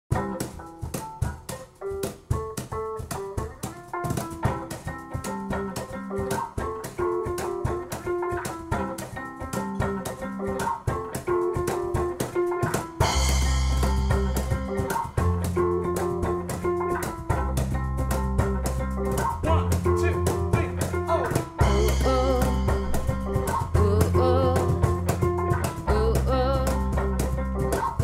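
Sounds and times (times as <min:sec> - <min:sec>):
cajon hits: 0:00.1 - 0:28.0
electric bass guitar melody: 0:00.1 - 0:28.0.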